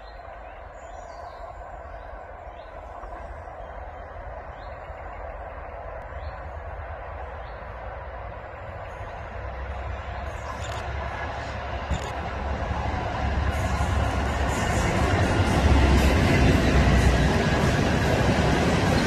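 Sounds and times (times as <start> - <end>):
distant locomotive rumble: 0.0 - 19.0.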